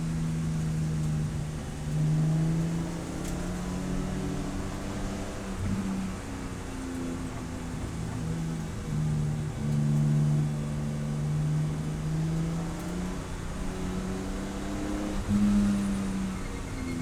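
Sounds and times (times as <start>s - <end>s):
race car engine at low revs: 0.0s - 17.0s.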